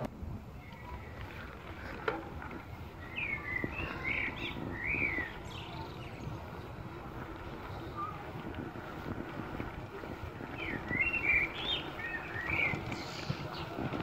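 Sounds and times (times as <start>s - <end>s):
birds chirping: 0.5s - 14.0s.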